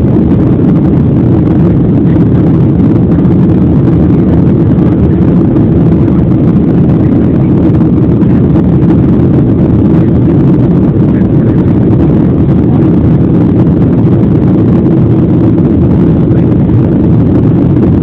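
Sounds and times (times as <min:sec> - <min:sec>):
jet engines roaring in cabin: 0:00.0 - 0:18.0
rushing air: 0:00.0 - 0:18.0.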